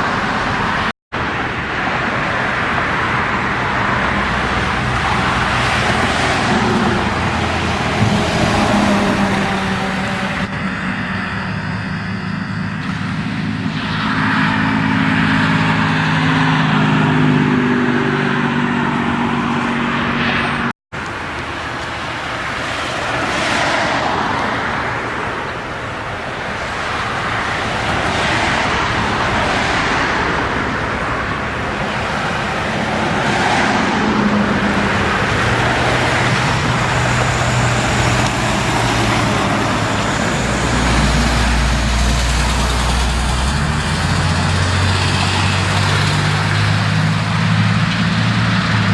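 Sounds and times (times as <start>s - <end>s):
heavy truck engine: 0.0s - 48.9s
road traffic passing: 0.0s - 48.9s.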